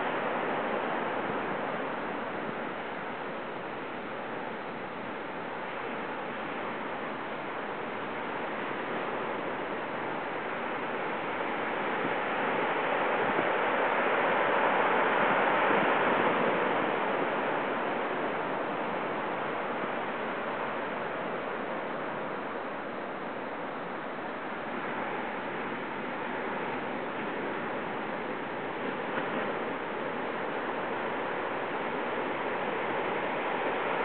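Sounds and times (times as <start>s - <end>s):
surf waves breaking: 0.0s - 34.0s.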